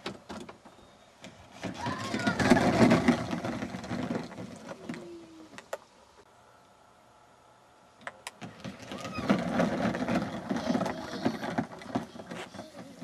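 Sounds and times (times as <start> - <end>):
toy car rolling over grass: 0.0 - 5.8, 8.0 - 13.0.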